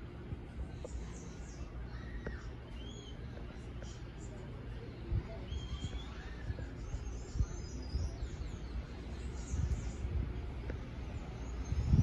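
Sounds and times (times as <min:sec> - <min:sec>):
distant train rumble: 0:00.0 - 0:12.0.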